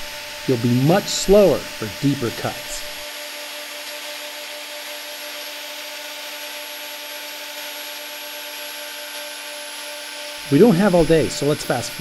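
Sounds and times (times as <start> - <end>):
angle grinder grinding metal: 0.0 - 12.0.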